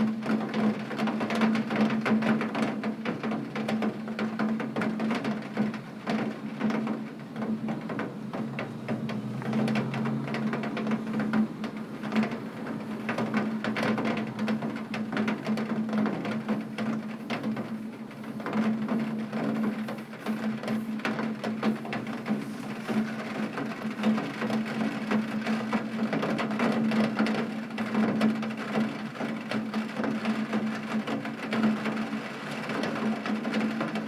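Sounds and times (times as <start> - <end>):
heavy rain on a window: 0.0 - 34.0.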